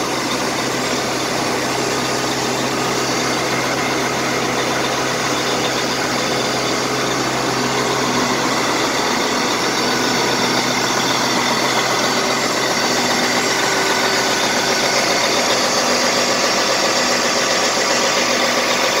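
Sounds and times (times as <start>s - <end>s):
steady whine: 0.0s - 19.0s
tractor diesel engine idling: 0.0s - 19.0s.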